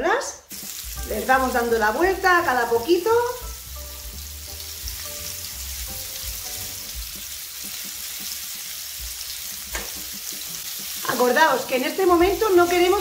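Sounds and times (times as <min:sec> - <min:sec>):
meatballs sizzling in a frying pan: 0:00.4 - 0:13.0.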